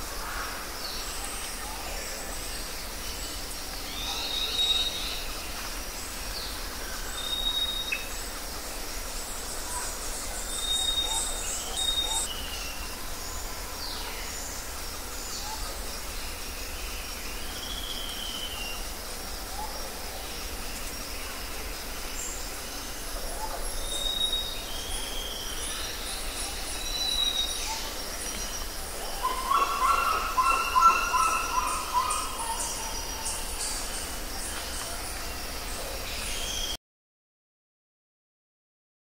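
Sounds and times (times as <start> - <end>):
wild birds chirping and calling: 0.2 - 36.7.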